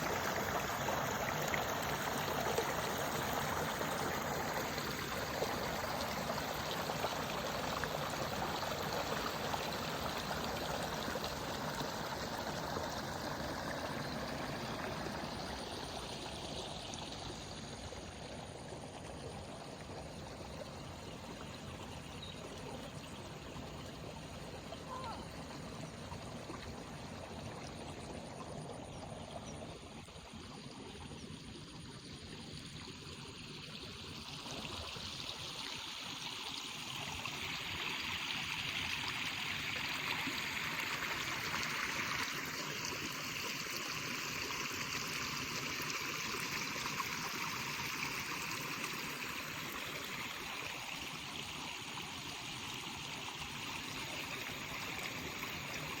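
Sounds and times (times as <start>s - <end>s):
water flowing: 0.0s - 56.0s.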